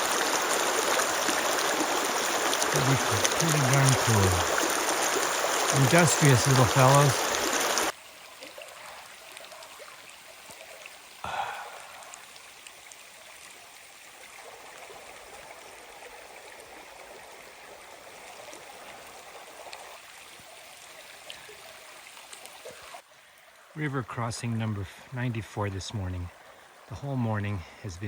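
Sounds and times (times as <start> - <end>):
river water rushing: 0.0 - 23.8.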